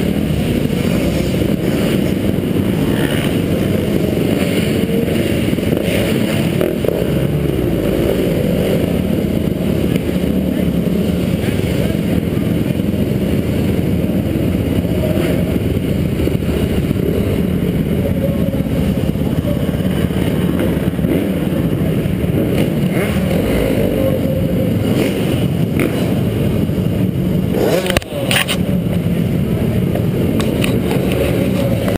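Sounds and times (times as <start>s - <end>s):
dirt bike engine running: 0.0s - 31.9s.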